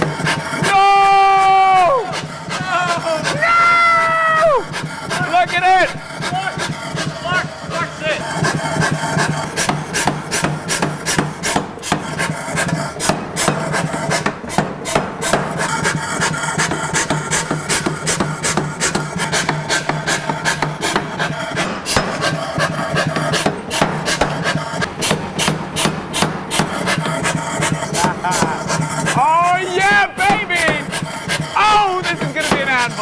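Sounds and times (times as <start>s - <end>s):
hammer striking hot steel: 0.0s - 33.0s.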